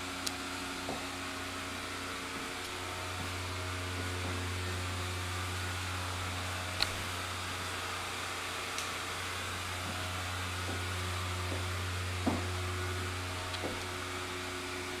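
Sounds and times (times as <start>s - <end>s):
blower fan humming: 0.0s - 15.0s.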